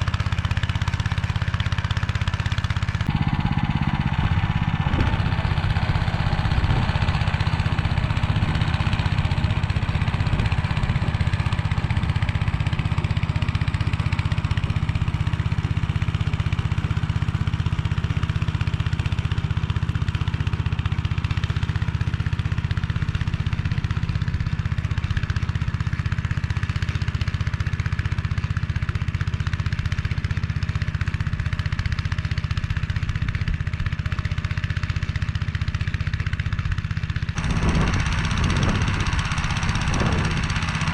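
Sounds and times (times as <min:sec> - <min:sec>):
rotary tiller churning soil: 0:00.0 - 0:40.9
tractor engine running under load: 0:00.0 - 0:40.9.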